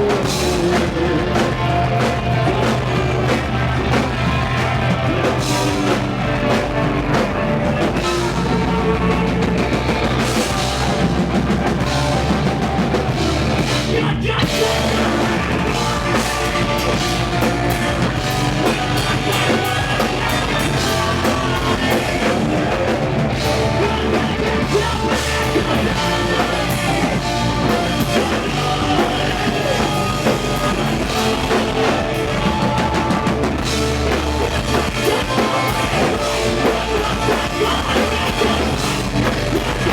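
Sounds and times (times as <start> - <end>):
bass line: 0.0 - 39.9
drum kit: 0.0 - 39.9
rock band playing live: 0.0 - 39.9.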